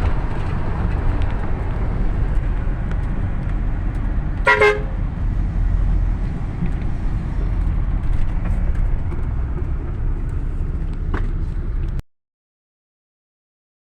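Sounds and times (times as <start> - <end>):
vehicle driving on a road: 0.0 - 12.0.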